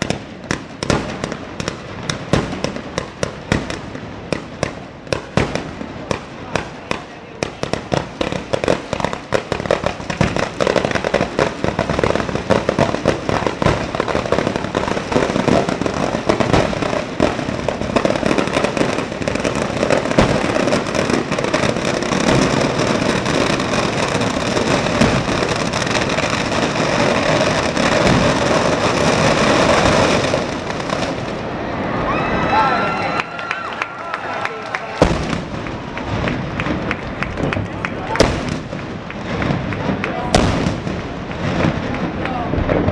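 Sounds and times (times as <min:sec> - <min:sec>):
rapid firecracker bangs: 0:00.0 - 0:31.6, 0:34.8 - 0:42.9.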